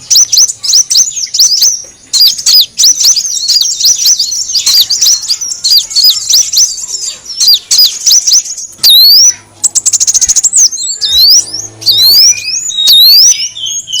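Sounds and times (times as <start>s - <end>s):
bird whistles: 0.0s - 14.0s
buzzy bird trill: 0.0s - 14.0s
sharp high bird chirps: 0.0s - 14.0s.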